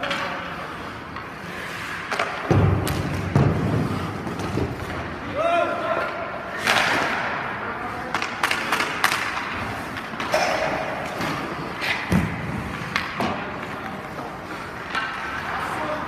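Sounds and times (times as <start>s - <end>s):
skates scraping ice: 0.0s - 16.0s.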